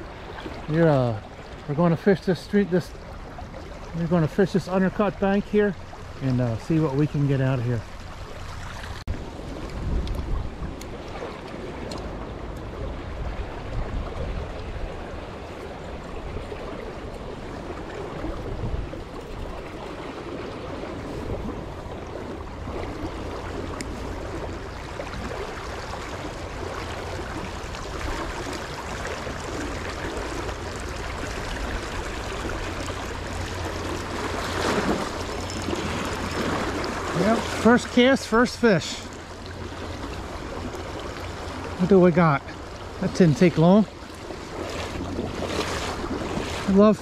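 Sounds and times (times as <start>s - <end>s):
stream flowing water: 0.0s - 47.0s.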